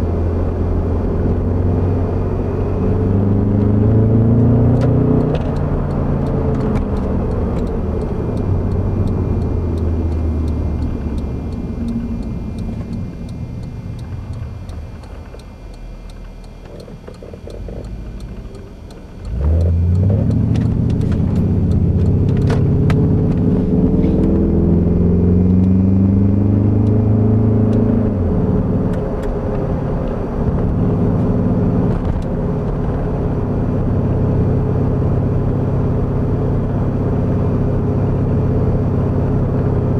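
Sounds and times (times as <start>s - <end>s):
car exhaust note: 0.0s - 39.9s.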